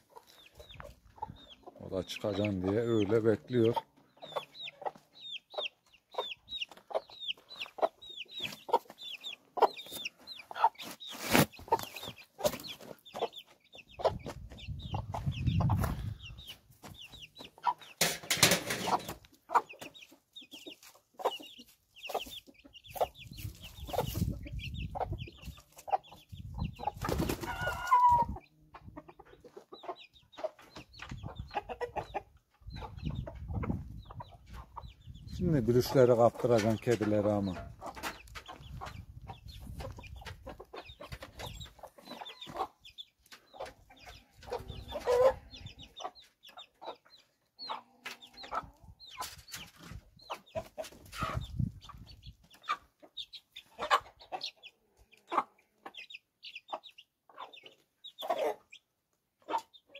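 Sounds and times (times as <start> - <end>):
chicks peeping: 0.0 - 59.9
hen clucking: 0.0 - 59.9.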